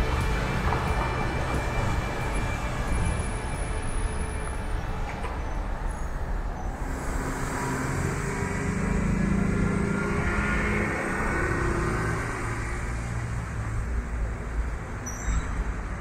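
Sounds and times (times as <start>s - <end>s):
traffic rumble: 0.0s - 16.0s
vehicle engine hum passing: 0.0s - 16.0s.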